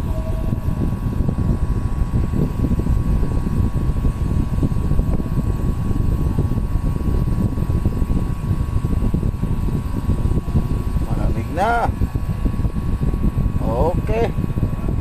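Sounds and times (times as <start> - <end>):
air conditioner fan rushing: 0.0 - 15.0
high hum: 0.0 - 15.0.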